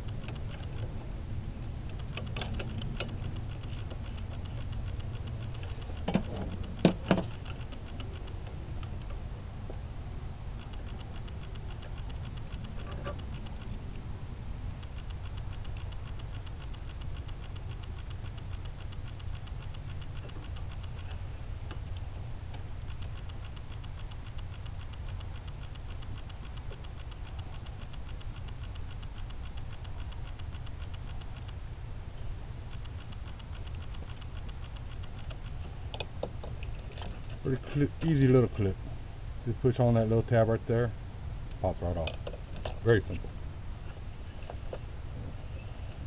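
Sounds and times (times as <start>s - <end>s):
fast high-pitched ticking: 0.0s - 9.4s, 10.2s - 38.7s
steady low rumble: 0.0s - 46.0s.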